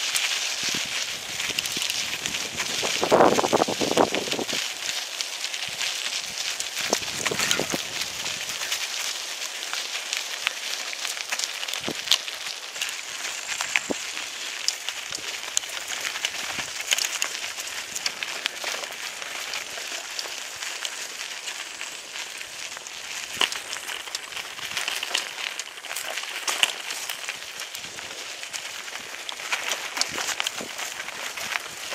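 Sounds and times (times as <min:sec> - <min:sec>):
bike tyres crunching on leaves: 0:00.0 - 0:31.9.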